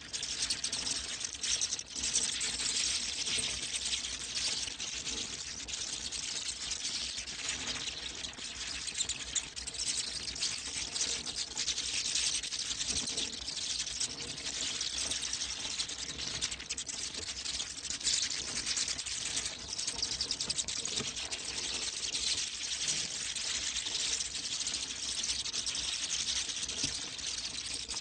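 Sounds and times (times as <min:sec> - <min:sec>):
bats clicking and chirping: 0:00.2 - 0:28.0.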